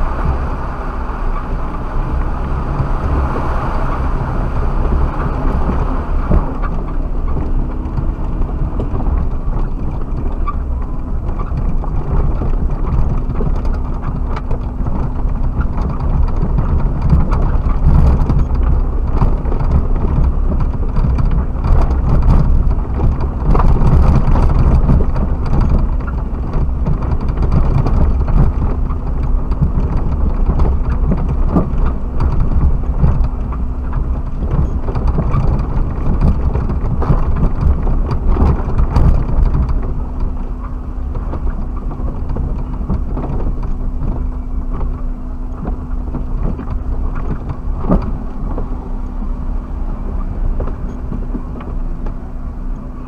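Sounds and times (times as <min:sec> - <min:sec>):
vehicle driving over rough ground: 0:00.0 - 0:53.0
knocks and rattles: 0:01.3 - 0:53.0.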